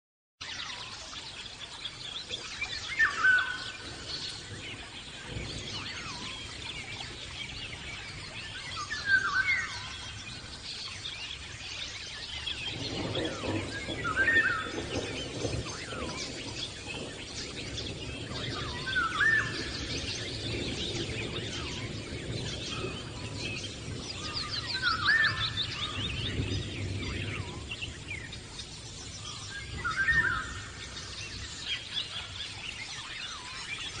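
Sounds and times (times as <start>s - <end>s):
birds chirping: 0.4s - 34.0s.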